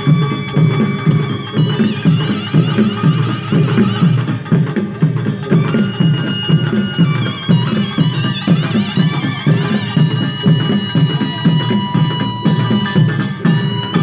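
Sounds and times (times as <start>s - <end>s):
barrel drums beating fast rhythm: 0.0s - 14.0s
shrill wavering wind melody: 0.0s - 14.0s.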